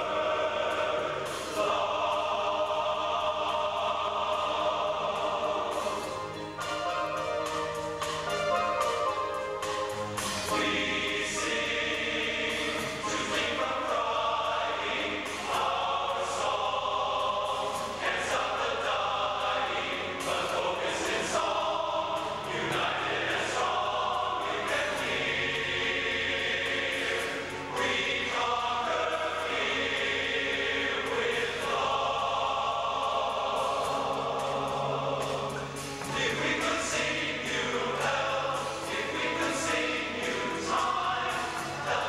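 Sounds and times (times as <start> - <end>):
men's chorus singing in harmony: 0.0 - 42.0.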